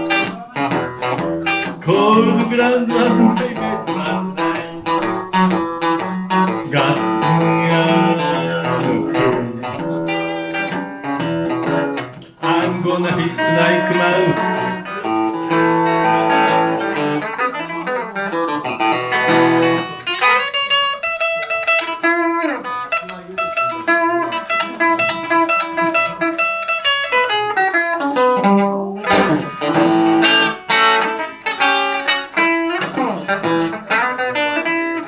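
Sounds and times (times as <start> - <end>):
electric guitar blues playing: 0.0 - 35.0.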